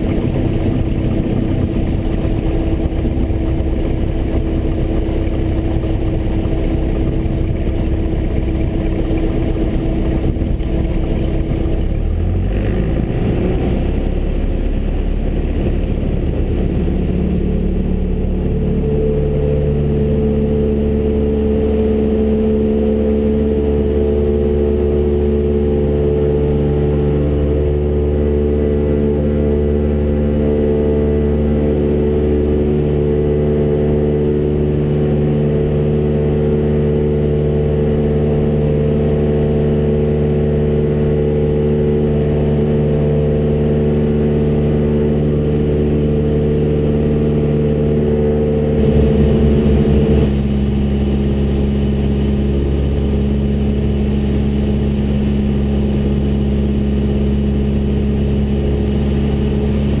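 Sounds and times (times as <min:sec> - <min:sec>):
airplane engine and propeller: 0:00.0 - 1:00.0.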